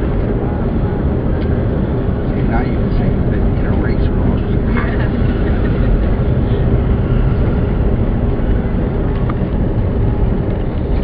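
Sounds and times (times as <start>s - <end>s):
vehicle road and wind noise: 0.0s - 11.0s.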